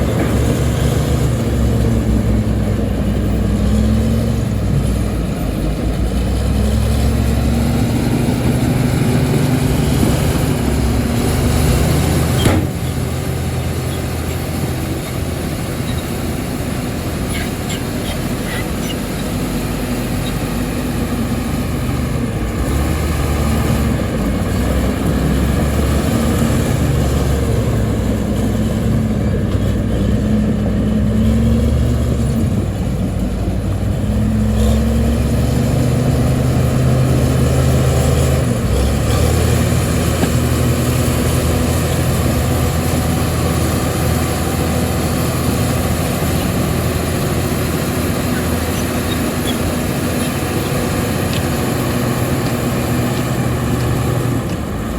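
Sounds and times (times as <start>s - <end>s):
heavy machinery engine running: 0.0s - 54.9s.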